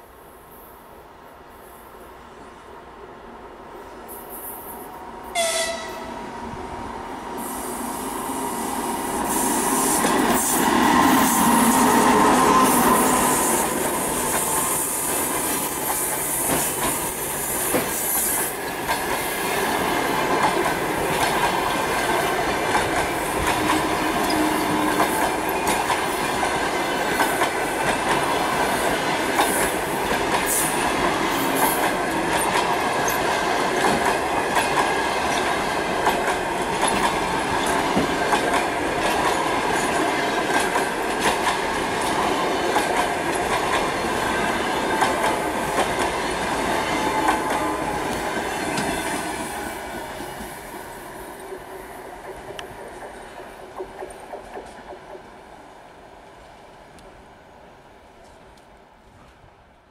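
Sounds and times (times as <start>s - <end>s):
train rumble: 5.3s - 55.4s.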